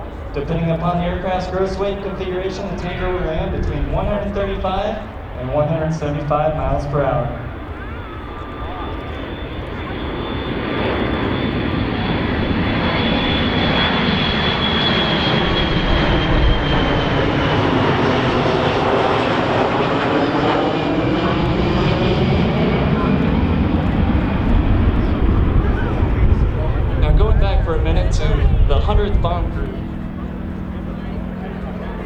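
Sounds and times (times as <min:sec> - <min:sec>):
high engine whine dropping in pitch: 0:00.0 - 0:32.0
jet aircraft flying past: 0:00.0 - 0:32.0.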